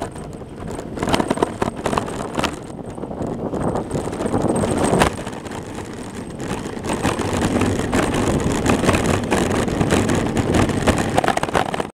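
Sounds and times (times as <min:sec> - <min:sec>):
road and wind noise: 0:00.0 - 0:11.9.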